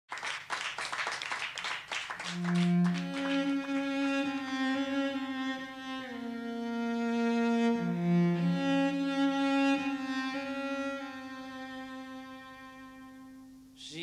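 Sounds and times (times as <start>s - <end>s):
solo bowed cello: 2.2s - 13.8s.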